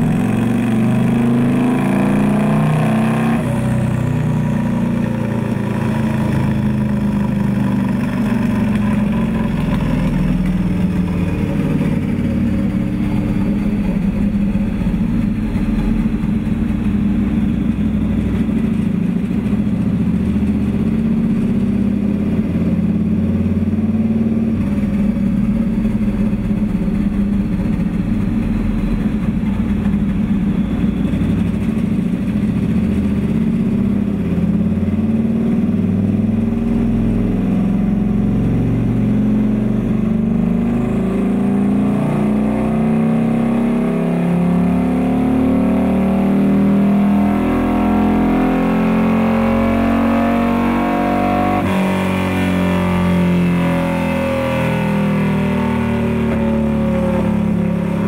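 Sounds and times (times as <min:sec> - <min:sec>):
motorcycle engine revving on dyno: 0:00.0 - 0:58.0.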